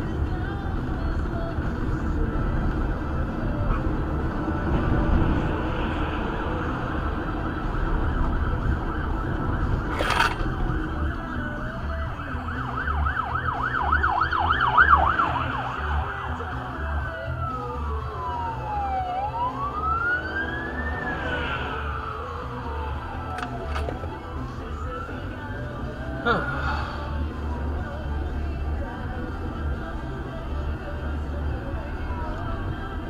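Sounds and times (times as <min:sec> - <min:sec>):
police siren yelp and wail: 0:04.1 - 0:33.0.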